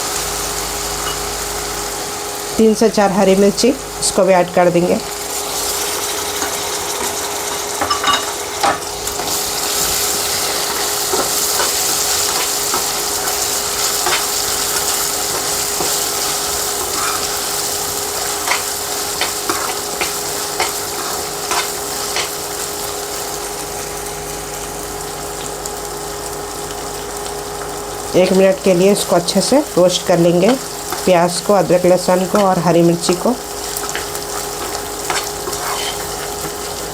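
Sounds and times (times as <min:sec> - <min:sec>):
food sizzling in hot oil: 0:00.0 - 0:36.9.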